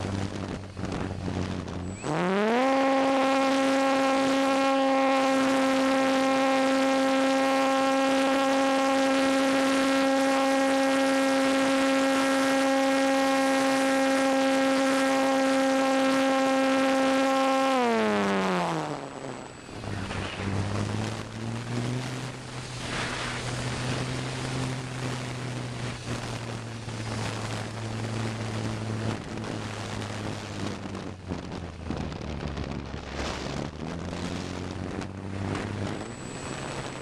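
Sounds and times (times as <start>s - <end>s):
electric motor and propeller whine: 0.0s - 37.0s.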